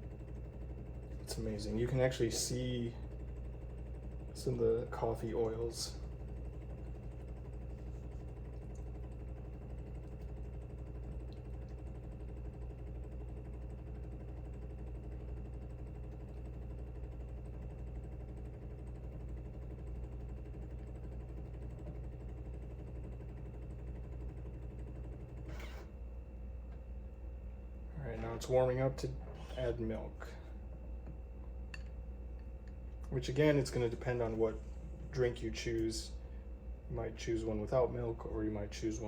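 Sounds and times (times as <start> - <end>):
coffee machine pump humming: 0.0 - 39.0.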